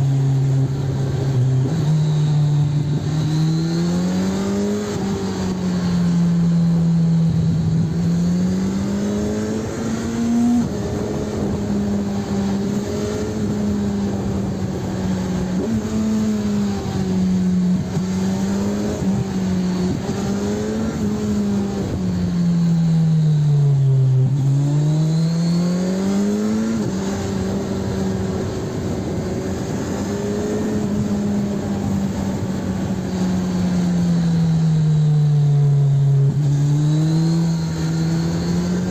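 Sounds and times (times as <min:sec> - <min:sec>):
motorcycle engine and exhaust: 0:00.0 - 0:38.9
road and wind noise: 0:00.0 - 0:38.9.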